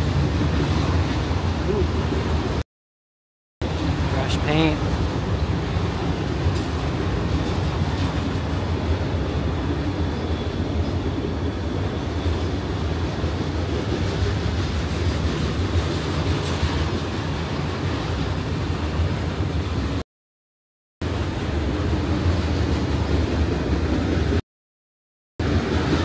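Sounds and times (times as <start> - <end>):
freight train rumbling past: 0.0 - 2.6, 3.6 - 20.0, 21.0 - 24.4, 25.4 - 26.0.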